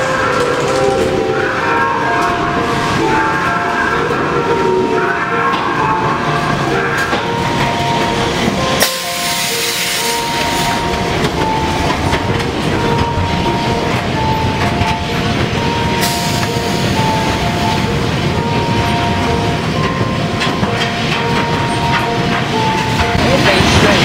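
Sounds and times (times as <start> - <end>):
ride car rolling on track: 0.0 - 24.0
slow melody of held notes: 0.0 - 24.0.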